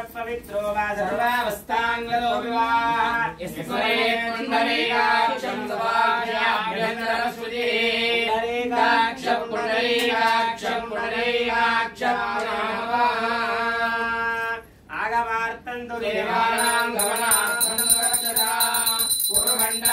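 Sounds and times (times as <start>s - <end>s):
voices chanting a mantra: 0.7s - 19.9s.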